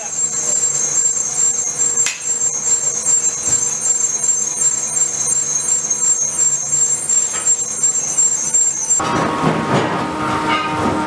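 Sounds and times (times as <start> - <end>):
low hum: 0.0 - 9.1
metal lathes whining: 0.0 - 11.0.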